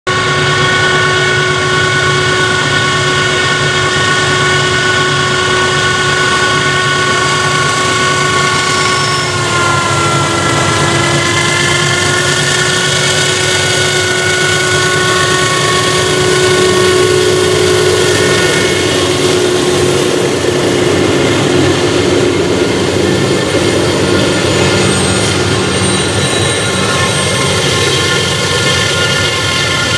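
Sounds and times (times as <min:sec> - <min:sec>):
locomotive whine: 0:00.1 - 0:29.9.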